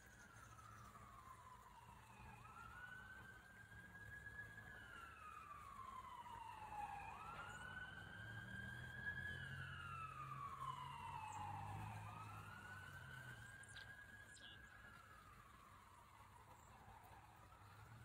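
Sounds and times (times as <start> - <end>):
emergency vehicle siren wailing: 0.0 - 18.0.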